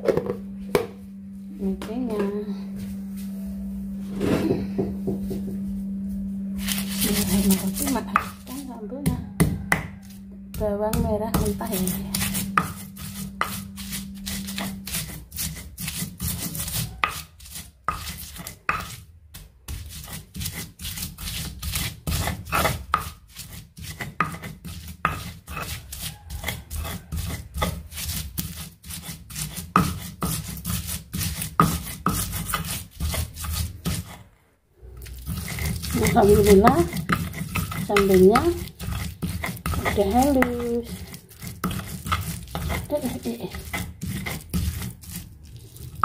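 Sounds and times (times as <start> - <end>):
stone pestle grinding in mortar: 6.6 - 46.0.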